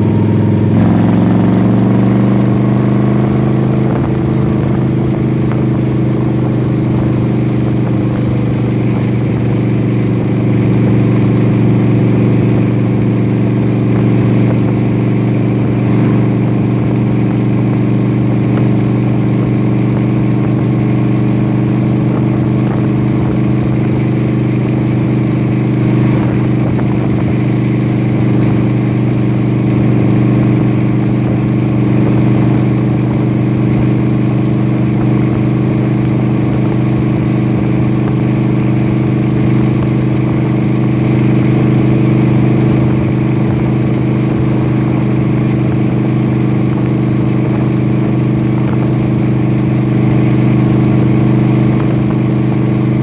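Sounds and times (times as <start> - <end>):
engine hum: 0.0 - 53.0
road noise: 0.0 - 53.0.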